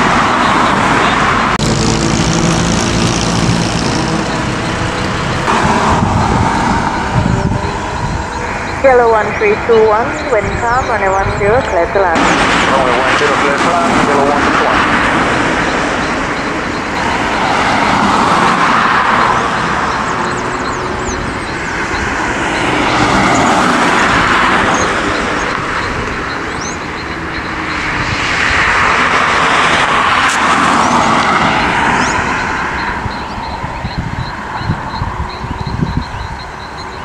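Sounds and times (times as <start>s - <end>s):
distant jet noise: 0.0s - 37.0s.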